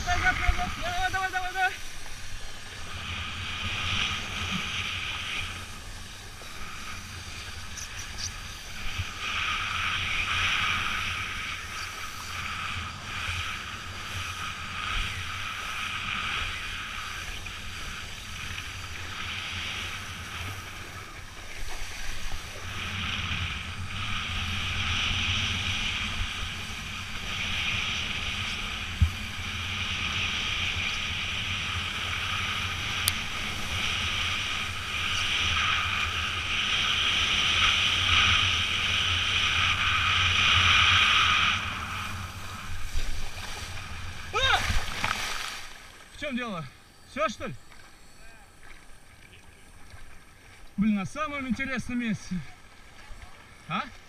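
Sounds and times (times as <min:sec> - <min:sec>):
wind rushing over microphone: 0:00.0 - 0:45.9
water noise: 0:00.0 - 0:54.0.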